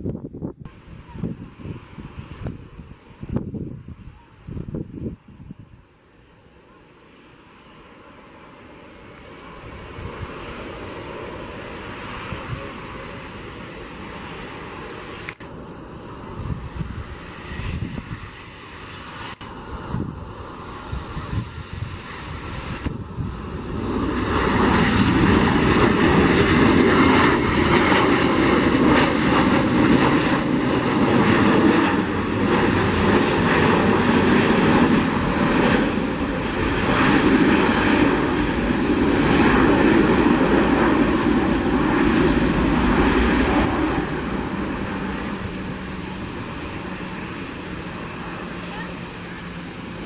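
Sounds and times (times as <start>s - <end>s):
jet engine roar: 0.0s - 50.0s.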